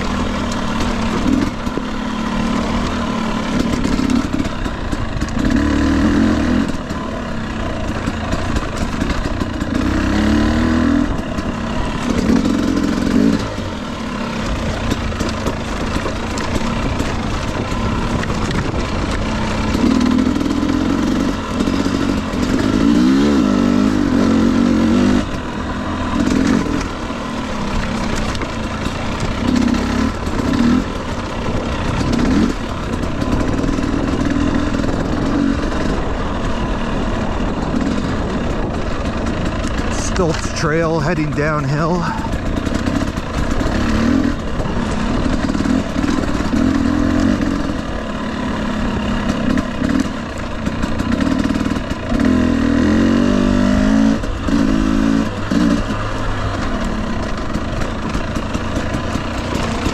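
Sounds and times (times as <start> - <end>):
motorcycle engine revving: 0.0 - 59.9
motorcycle rattling on rough trail: 0.0 - 59.9.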